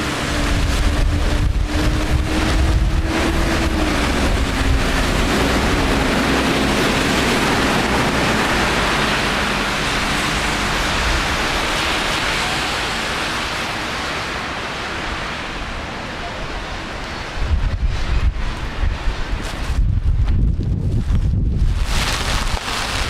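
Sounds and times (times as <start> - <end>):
rain hissing: 0.0 - 19.9, 20.9 - 23.0
traffic on wet street: 0.0 - 23.0.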